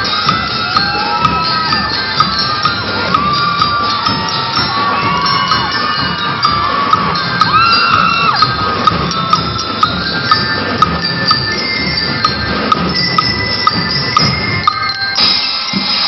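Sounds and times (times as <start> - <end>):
bell lyres ringing metallic notes: 0.0 - 16.0
steady drum beat: 0.0 - 16.0.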